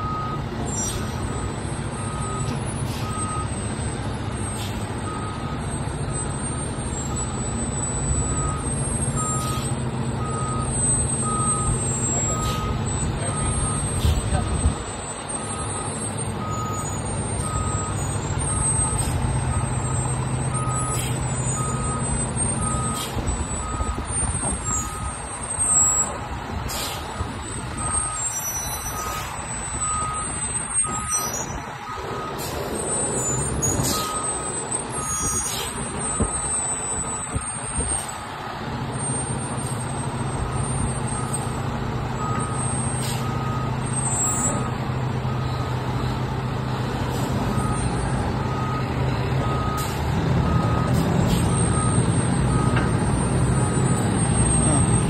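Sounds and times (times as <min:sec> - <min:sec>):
reversing alarm beeps: 0:00.0 - 0:26.2, 0:27.1 - 0:38.1, 0:39.0 - 0:46.3, 0:47.1 - 0:55.0
diesel engine running: 0:00.0 - 0:55.0.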